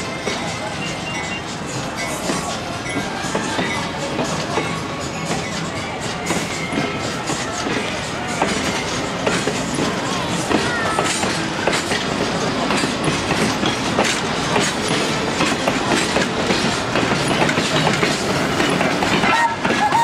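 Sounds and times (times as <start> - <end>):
wheel squeals: 0.0 - 12.7, 13.3 - 20.0
train wheels clacking over rail joints: 0.0 - 20.0.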